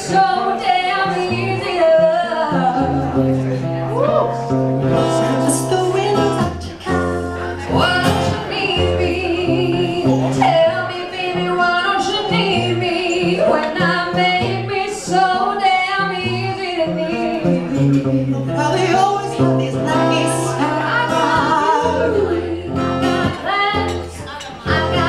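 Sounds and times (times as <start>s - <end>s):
woman and man singing duet: 0.0s - 3.4s, 4.2s - 25.0s
acoustic guitar: 0.0s - 25.0s.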